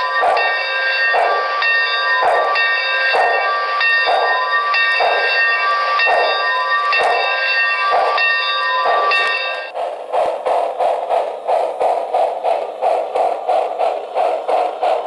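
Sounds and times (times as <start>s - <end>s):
model train steam chuffs: 0.0s - 15.0s.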